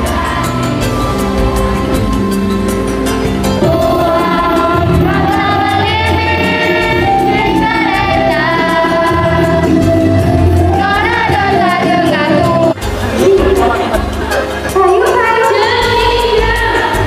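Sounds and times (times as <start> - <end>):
children's choir singing: 0.0 - 17.0
instrumental backing with beat: 0.0 - 17.0.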